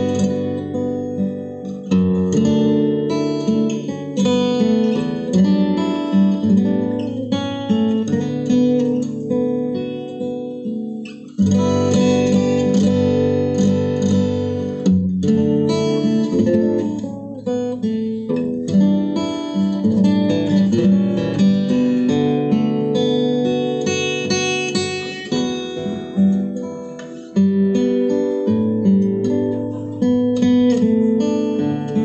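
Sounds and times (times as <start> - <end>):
fingerstyle acoustic guitar: 0.0 - 32.0.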